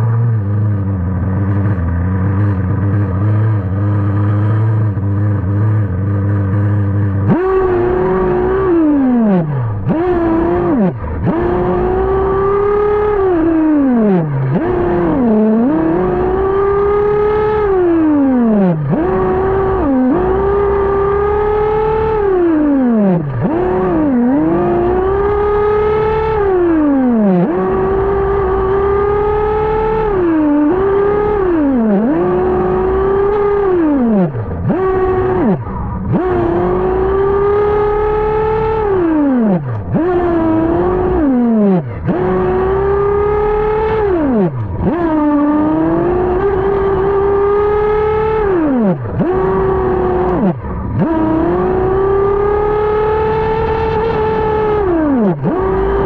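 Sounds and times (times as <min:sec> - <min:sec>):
small engine idling and revving: 0:00.0 - 0:56.0.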